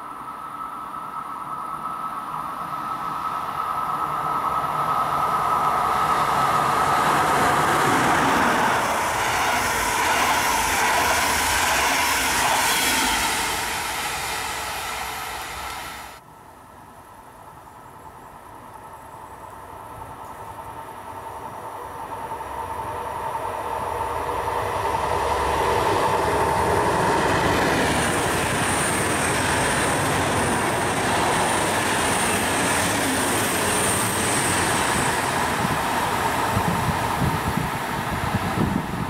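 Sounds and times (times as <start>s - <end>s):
electric train passing: 0.0s - 16.2s, 18.5s - 39.0s
diesel train rumble: 1.7s - 16.2s, 19.8s - 39.0s.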